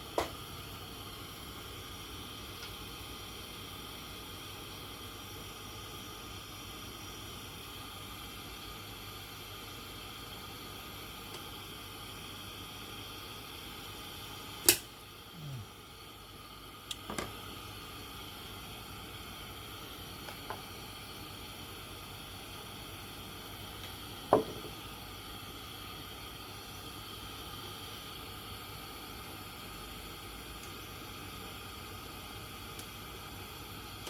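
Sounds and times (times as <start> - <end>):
lantern hissing: 0.1 - 34.0.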